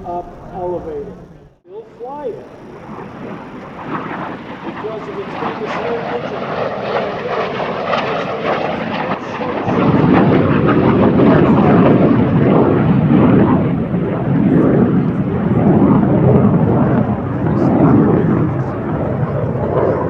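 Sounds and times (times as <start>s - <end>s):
jet engine passing low: 0.0s - 20.0s.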